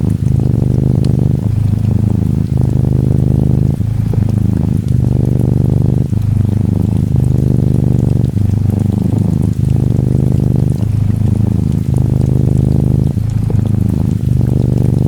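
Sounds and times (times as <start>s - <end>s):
faint rain pattering: 0.0s - 15.0s
kitten purring: 0.0s - 15.0s.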